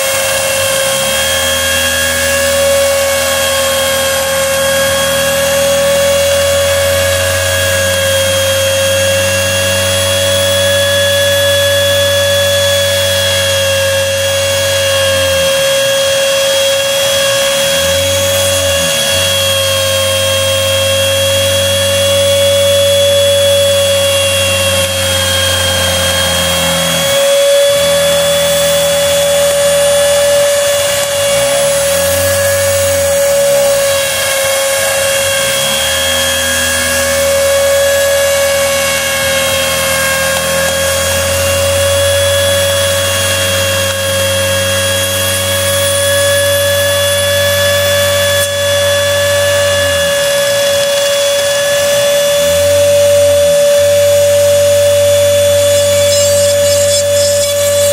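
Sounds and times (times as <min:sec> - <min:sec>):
router spindle high whine: 0:00.0 - 0:57.9
stepper motors humming: 0:00.0 - 0:57.9.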